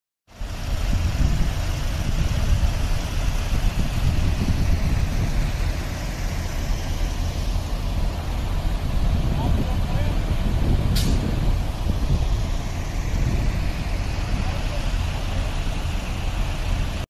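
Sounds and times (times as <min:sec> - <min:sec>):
tractor engines rumbling: 0:00.3 - 0:17.0.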